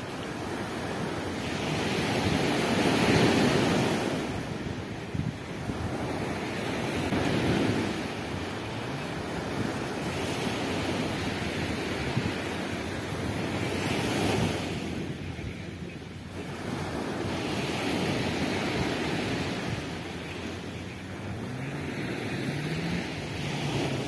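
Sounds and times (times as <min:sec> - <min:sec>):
waves breaking on beach: 0:00.0 - 0:24.0
wind rumbling on microphone: 0:00.0 - 0:24.0.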